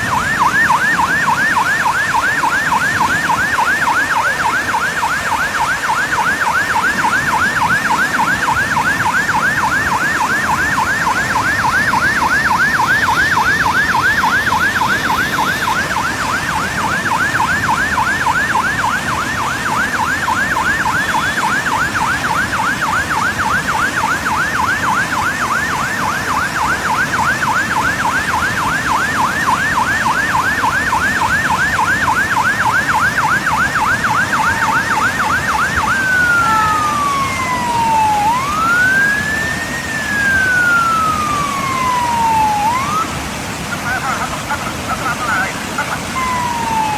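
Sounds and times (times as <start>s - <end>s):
background noise rush: 0.0s - 46.9s
electronic siren yelping: 0.0s - 46.9s.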